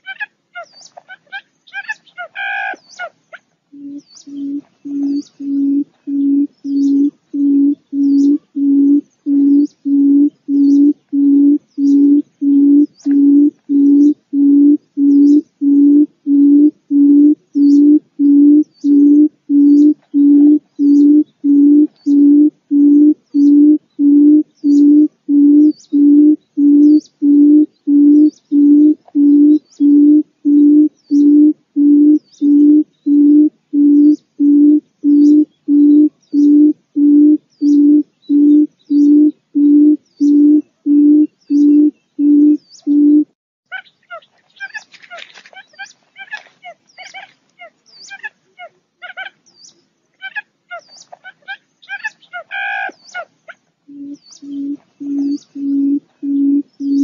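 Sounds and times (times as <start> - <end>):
buttonquail low hooting call: 0.0 - 49.4, 50.2 - 57.0.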